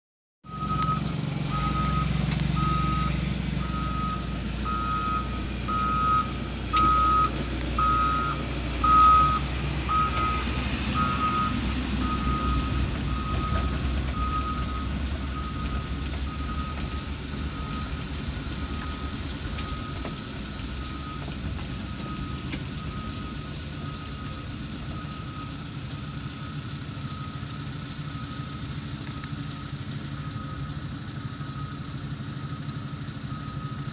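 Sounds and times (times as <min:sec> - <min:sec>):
reversing alarm beeping: 0:00.4 - 0:33.9
truck engines rumbling: 0:00.4 - 0:33.9.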